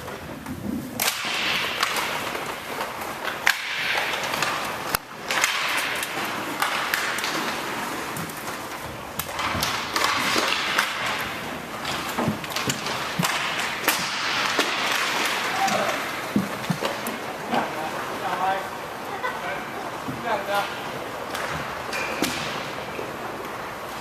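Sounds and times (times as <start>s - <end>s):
hockey sticks clacking: 0.0s - 24.0s
skate wheels rolling hiss: 0.0s - 24.0s.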